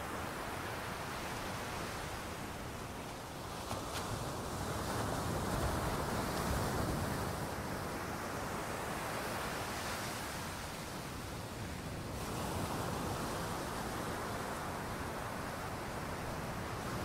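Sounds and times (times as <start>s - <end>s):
sea surf washing on shore: 0.0s - 17.0s.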